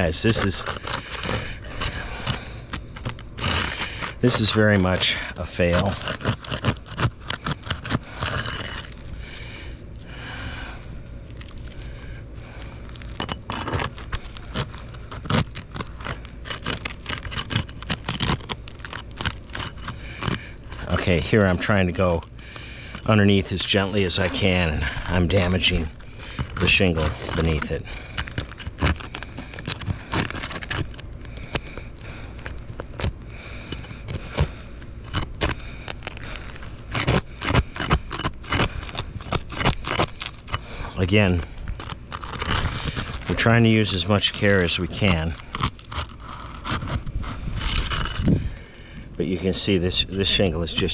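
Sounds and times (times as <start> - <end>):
roof shingles scraping and clicking: 0.0 - 9.7, 12.4 - 48.2.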